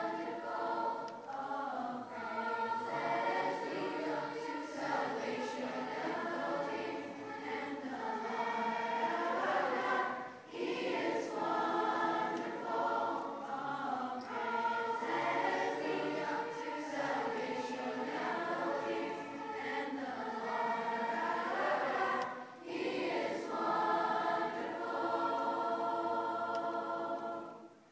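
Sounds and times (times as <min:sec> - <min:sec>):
children's choir singing a hymn: 0:00.0 - 0:27.9.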